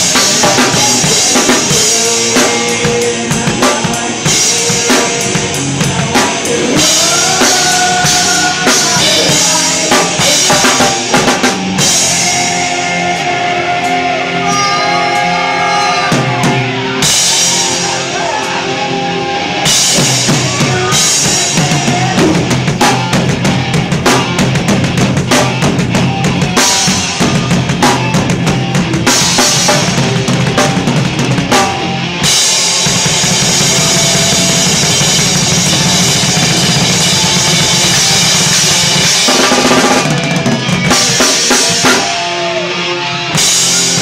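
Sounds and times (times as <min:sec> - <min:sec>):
live rock band: 0:00.0 - 0:44.0
rock drum kit playing: 0:00.0 - 0:44.0.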